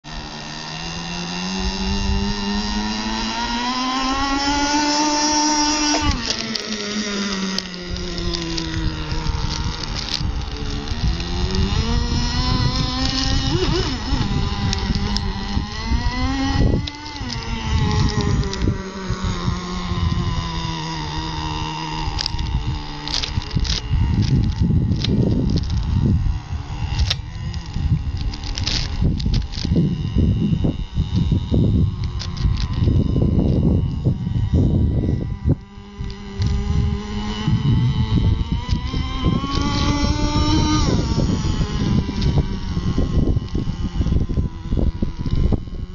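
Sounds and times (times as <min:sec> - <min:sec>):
model boat engine revving: 0:00.1 - 0:45.9
wind buffeting microphone: 0:00.1 - 0:45.9.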